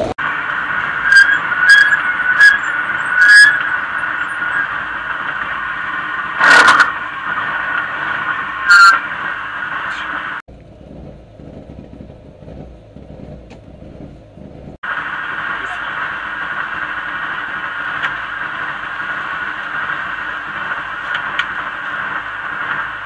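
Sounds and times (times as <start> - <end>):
rally car engine running: 0.0 - 23.0.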